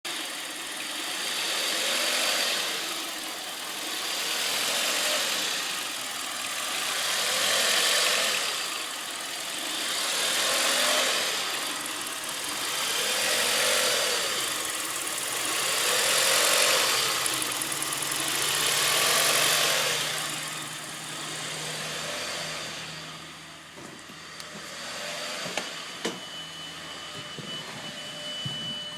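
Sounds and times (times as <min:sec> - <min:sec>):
car engine with surging idle: 0:00.1 - 0:28.9.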